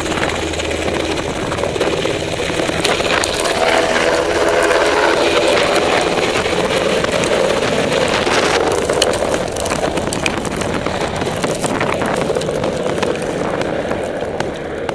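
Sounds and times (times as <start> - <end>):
helicopter rotor and turbine: 0.0 - 14.9.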